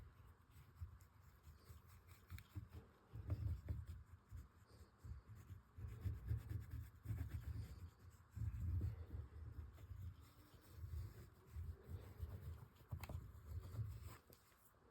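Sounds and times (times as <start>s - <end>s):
oil pastel rubbing on paper: 0.0s - 14.7s.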